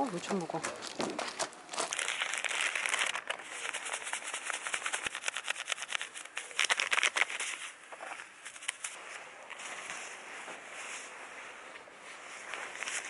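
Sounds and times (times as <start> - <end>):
plastic wrappers crinkling: 0.0 - 10.1, 12.2 - 13.0.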